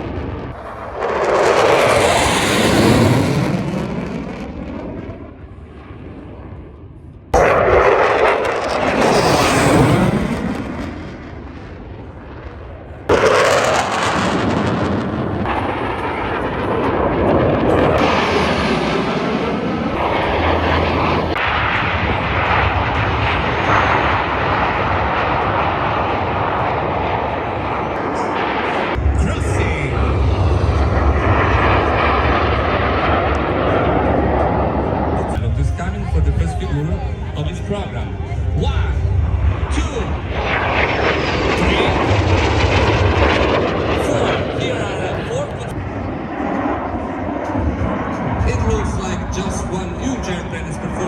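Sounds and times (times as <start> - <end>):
airplanes flying past: 0.0 - 51.0.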